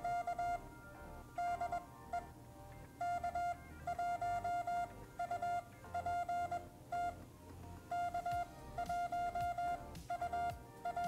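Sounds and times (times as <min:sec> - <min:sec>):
morse code beeps: 0:00.0 - 0:11.0.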